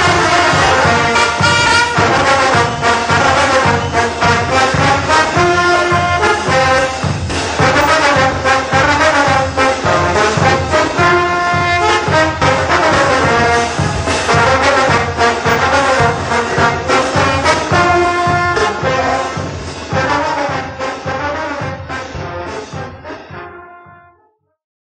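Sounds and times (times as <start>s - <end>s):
bass drum and snare beat: 0.0s - 24.0s
brass band playing: 0.0s - 24.3s.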